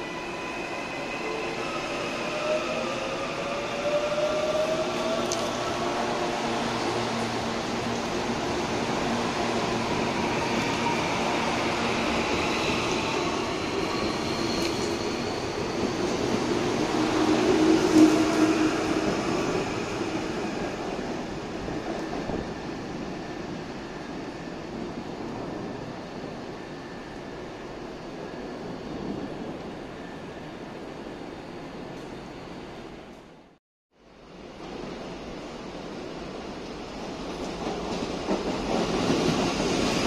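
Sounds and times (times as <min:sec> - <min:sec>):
rising train whine: 0:00.0 - 0:40.0.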